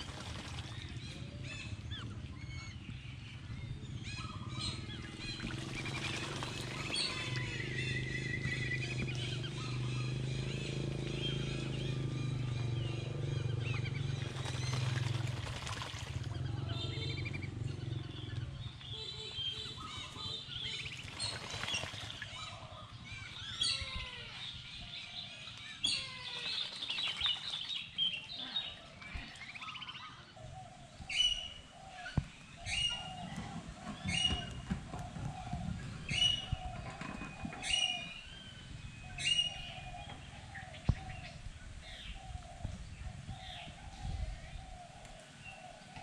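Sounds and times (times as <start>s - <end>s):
birds chirping and calling: 0.0s - 46.0s
low steady hum: 0.0s - 46.0s.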